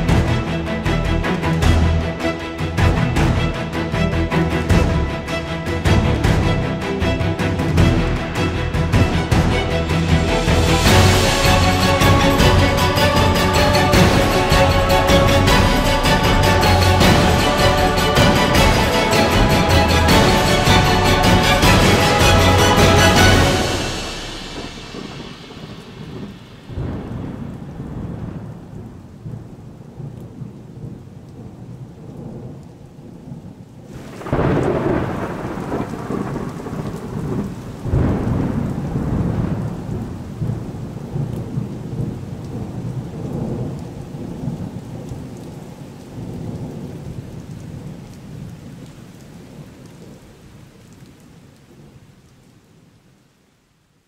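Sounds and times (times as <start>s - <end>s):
steady rain: 0.0s - 54.0s
thunder rolling: 2.8s - 50.5s.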